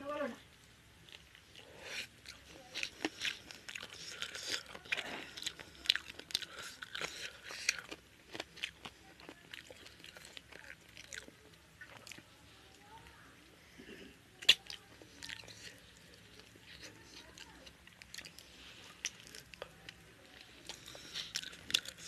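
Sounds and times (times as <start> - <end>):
chewing with wet clicks: 0.5 - 13.0, 14.3 - 22.0.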